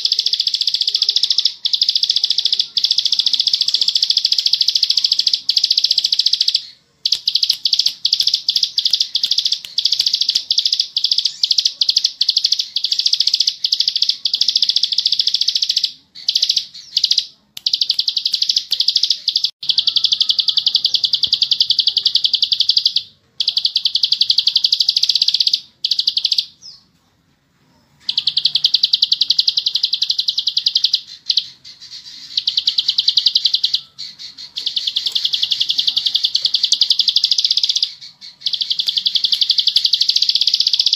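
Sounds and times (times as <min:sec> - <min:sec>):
bird singing fast clicking trills: 0:00.0 - 0:26.8, 0:28.0 - 0:40.9.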